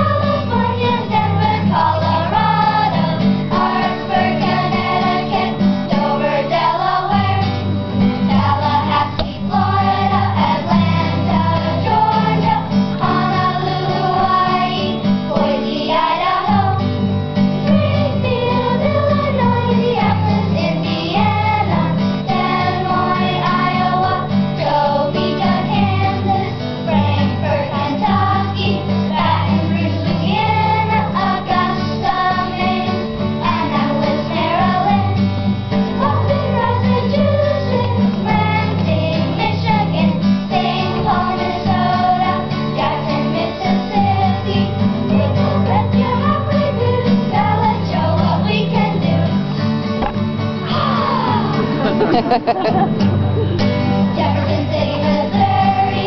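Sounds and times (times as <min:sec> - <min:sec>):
acoustic guitar: 0:00.0 - 0:56.0
children's choir singing: 0:00.0 - 0:56.0.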